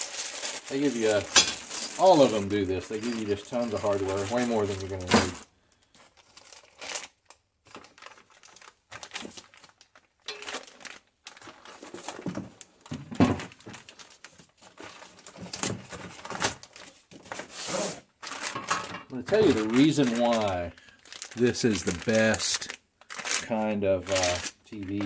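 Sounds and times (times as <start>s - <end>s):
plastic wrapping crinkling: 0.0s - 25.0s.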